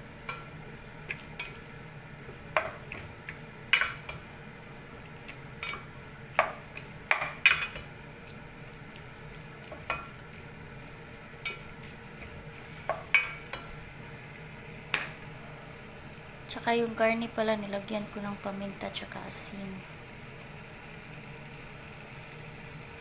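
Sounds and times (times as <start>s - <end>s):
pork frying sizzle: 0.0s - 23.0s.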